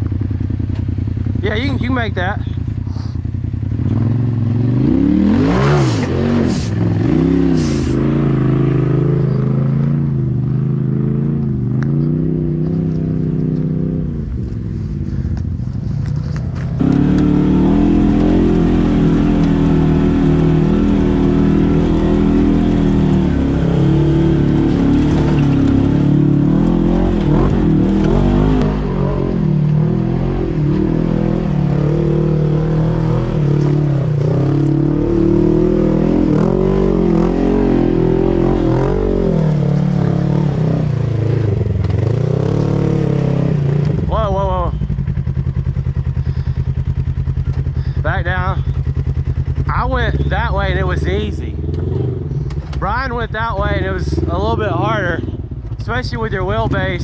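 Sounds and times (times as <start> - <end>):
utv engine revving: 0.0 - 57.0.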